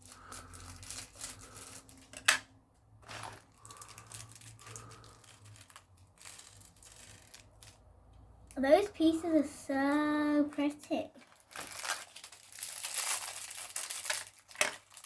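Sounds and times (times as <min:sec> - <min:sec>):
plastic bags crinkling: 0:00.0 - 0:02.4, 0:03.0 - 0:09.2, 0:09.8 - 0:15.0.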